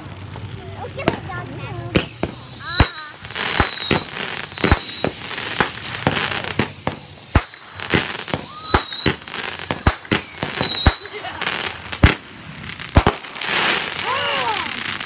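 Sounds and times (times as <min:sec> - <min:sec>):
fireworks banging: 0:00.0 - 0:15.0
fireworks whistling: 0:00.0 - 0:15.0.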